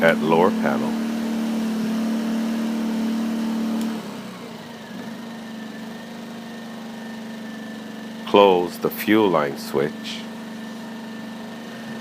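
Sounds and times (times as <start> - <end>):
portable generator engine running: 0.0 - 12.0.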